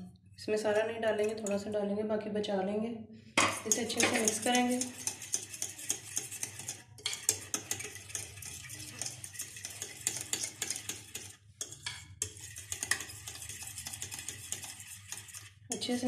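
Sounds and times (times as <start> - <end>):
spoon scraping and clinking bowl: 1.2 - 1.6, 3.4 - 16.0.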